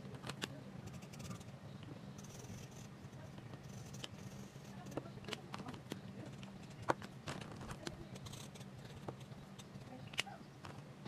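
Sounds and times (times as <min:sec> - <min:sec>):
markers clicking and tapping: 0:00.0 - 0:10.8
low steady hum: 0:00.0 - 0:11.0.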